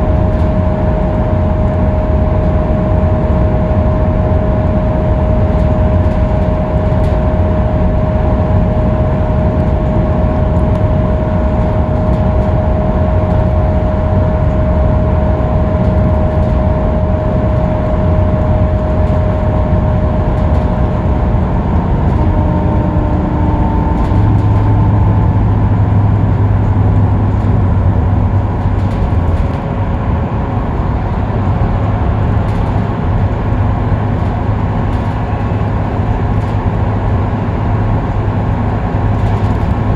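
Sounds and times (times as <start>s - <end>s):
bus engine and road drone: 0.0s - 39.9s
deeper hum: 0.0s - 39.9s
thin whine: 0.0s - 39.9s.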